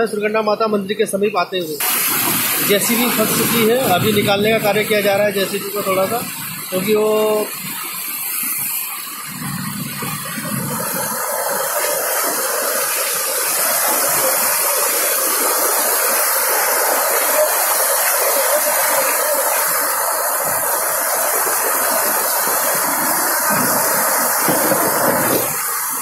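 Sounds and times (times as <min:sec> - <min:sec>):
heavy rain: 0:01.8 - 0:26.0
rushing floodwater: 0:01.8 - 0:26.0.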